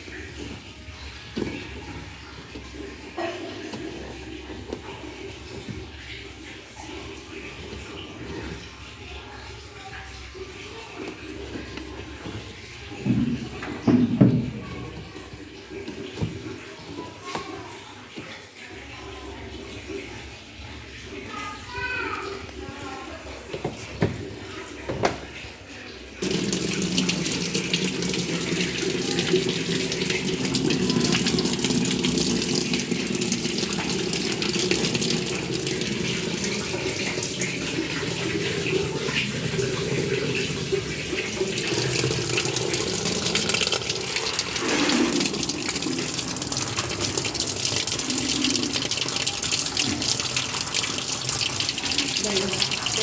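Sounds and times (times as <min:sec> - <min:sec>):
water filling washing machine tub: 0:00.0 - 0:53.0.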